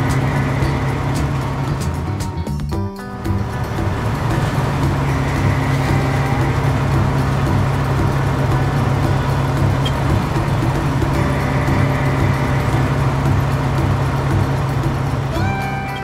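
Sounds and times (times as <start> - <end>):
dense mechanical rattle: 0.0 - 2.6, 3.2 - 16.0
combine harvester engine hum: 0.0 - 16.0.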